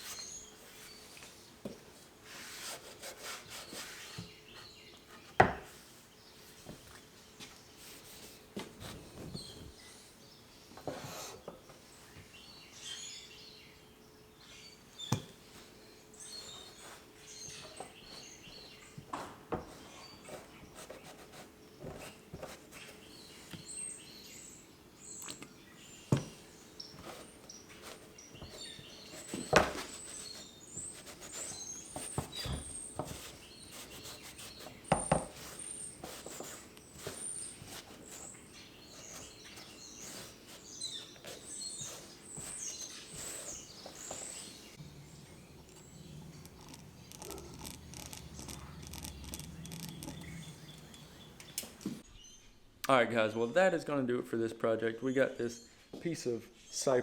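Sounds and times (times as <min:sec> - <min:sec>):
birds chirping: 0:00.0 - 0:01.8, 0:03.6 - 0:52.5
faint steady hum: 0:04.3 - 0:52.0.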